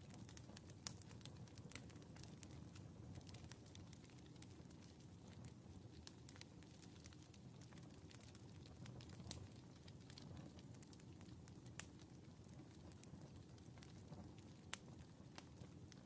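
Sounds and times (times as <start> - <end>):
fire popping and snapping: 0.0 - 16.0
wood fire crackling: 0.0 - 16.0.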